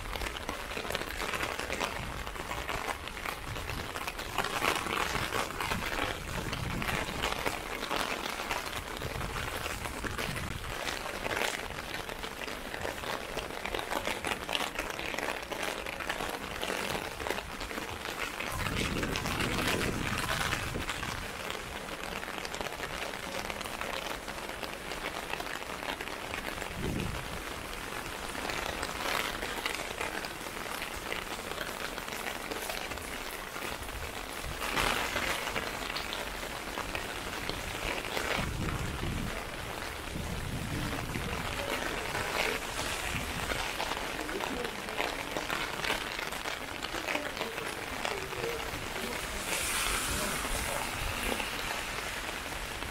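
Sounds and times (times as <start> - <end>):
rain pattering on umbrella: 0.0 - 52.9.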